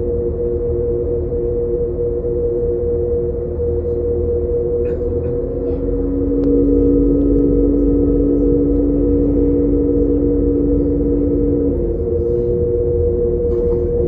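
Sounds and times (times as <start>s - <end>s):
droning hum of steady tones: 0.0s - 14.0s.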